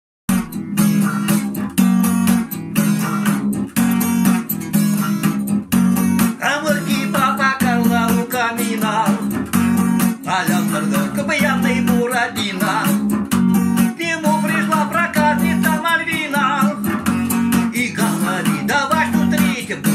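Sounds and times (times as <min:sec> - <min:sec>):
strummed acoustic guitar: 0:00.3 - 0:19.9.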